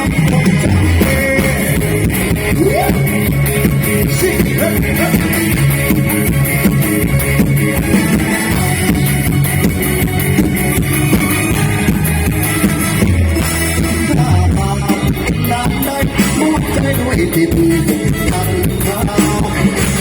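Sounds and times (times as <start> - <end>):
instrumental band music: 0.0 - 20.0.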